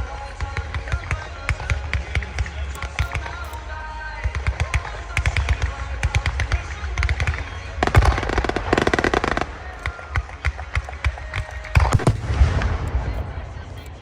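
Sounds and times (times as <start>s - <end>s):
fireworks bangs and crackling: 0.0s - 3.6s, 4.2s - 14.0s.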